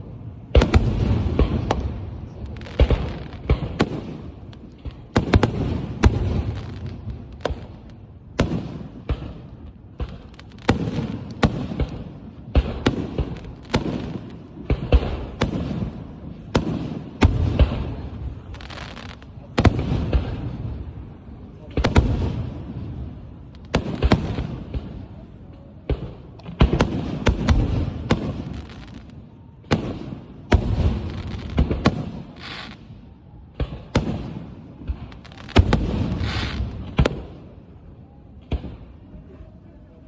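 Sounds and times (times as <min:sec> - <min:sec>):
aerial fireworks bursting: 0:00.0 - 0:37.8.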